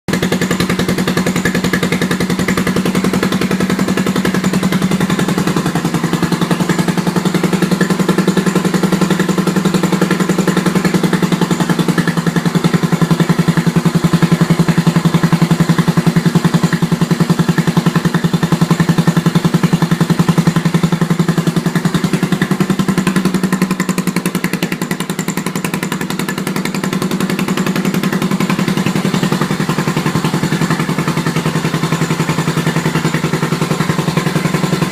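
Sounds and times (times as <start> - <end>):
single-cylinder motorcycle engine running: 0.1 - 34.9.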